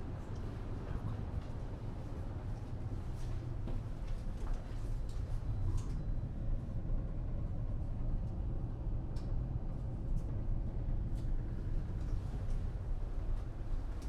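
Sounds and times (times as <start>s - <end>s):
ship engine rumble: 0.0s - 14.0s.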